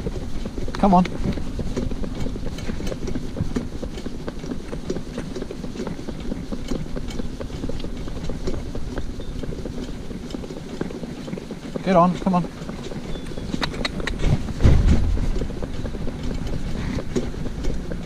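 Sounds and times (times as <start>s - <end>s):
cart frame rattling: 0.0s - 18.0s
cart wheels rumbling: 0.0s - 18.0s
hooves clip-clopping on tarmac: 0.0s - 18.0s.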